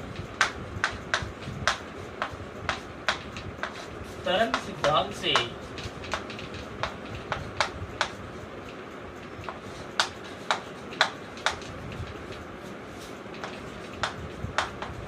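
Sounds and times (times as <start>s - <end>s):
pen tapping while writing: 0.2s - 8.8s, 9.4s - 12.4s, 13.3s - 15.0s.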